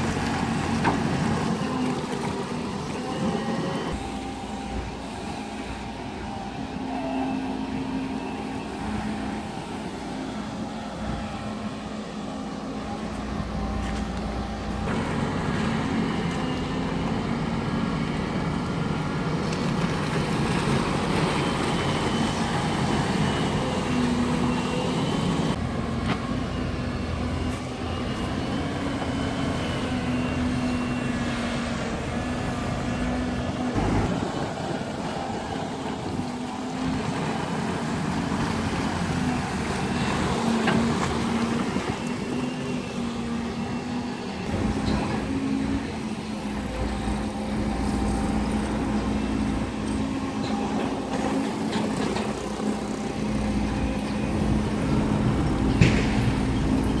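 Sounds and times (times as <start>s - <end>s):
excavator diesel engine running: 0.0s - 57.0s
high hydraulic whine: 0.0s - 57.0s.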